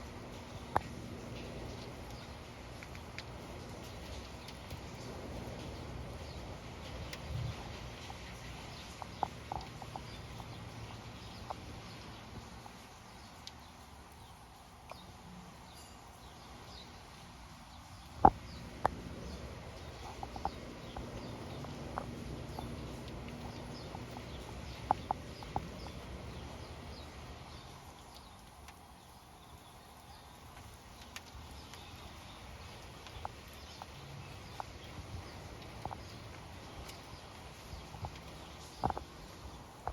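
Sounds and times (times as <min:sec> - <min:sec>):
light rain hiss: 0:00.0 - 0:39.9
sharp drips: 0:00.0 - 0:39.9.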